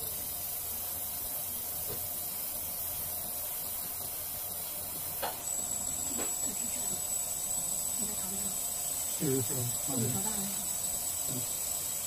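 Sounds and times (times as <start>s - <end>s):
laser engraving hiss: 0.0s - 12.0s
thin high-pitched whine: 0.0s - 12.0s.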